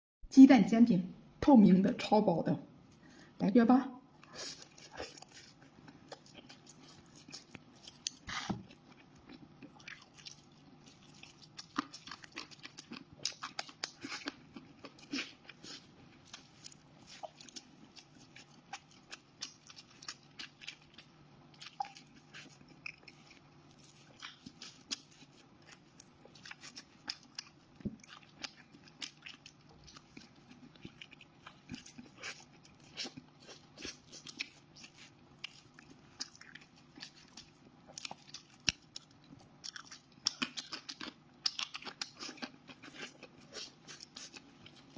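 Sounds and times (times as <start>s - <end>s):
crunchy food crunching and chewing: 4.4s - 44.9s.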